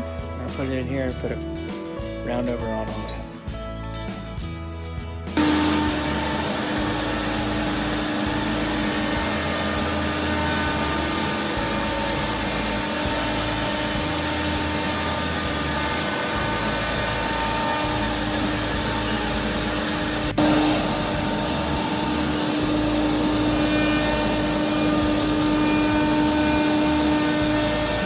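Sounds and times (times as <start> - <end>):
router whining: 5.4 - 28.0.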